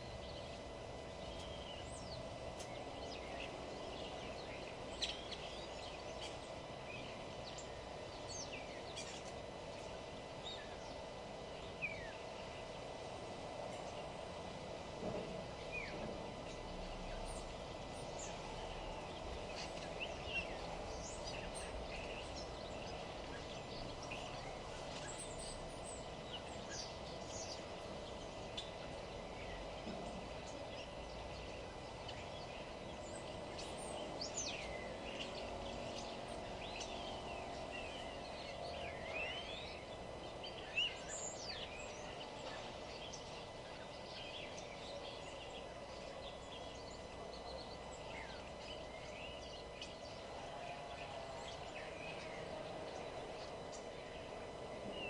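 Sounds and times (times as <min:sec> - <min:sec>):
low background hum: 0:00.0 - 0:55.0
wild birds chirping: 0:00.0 - 0:55.0.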